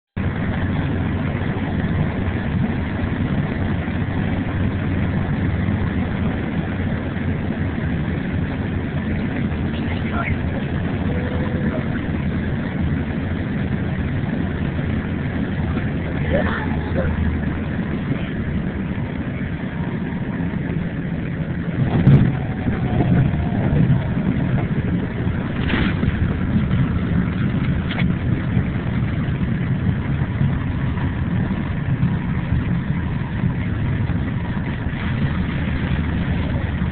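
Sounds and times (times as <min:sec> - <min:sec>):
airliner cabin rumble: 0:00.2 - 0:36.9.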